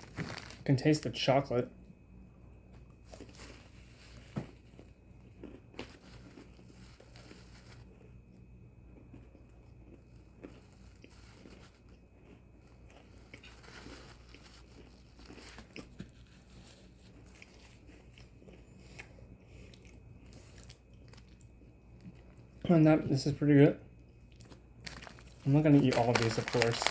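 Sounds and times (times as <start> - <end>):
cookie chewing and crunching: 0.0 - 1.7, 2.6 - 26.9
steady low hum: 0.0 - 26.9.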